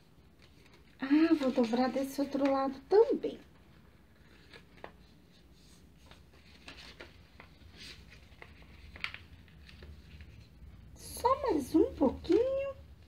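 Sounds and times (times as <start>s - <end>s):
paper rustling and crinkling: 0.2s - 13.0s.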